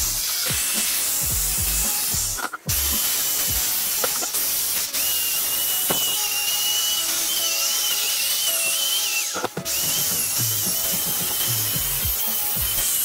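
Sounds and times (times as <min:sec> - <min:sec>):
high wavering whine: 0:00.0 - 0:13.0
small power tool hissing: 0:00.0 - 0:13.0.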